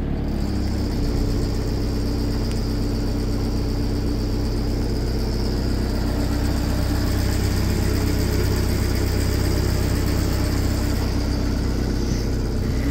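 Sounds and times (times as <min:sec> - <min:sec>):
excavator diesel engine idling: 0:00.0 - 0:12.9.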